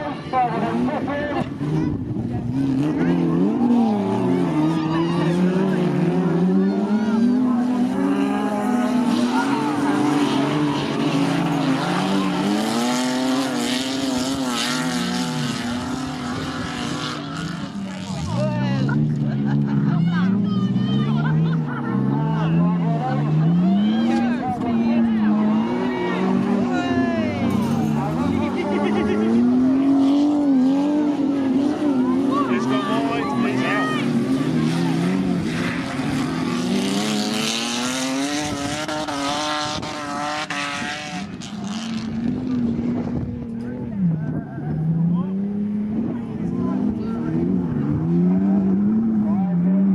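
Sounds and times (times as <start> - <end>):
racing car engines revving: 0.0 - 49.9.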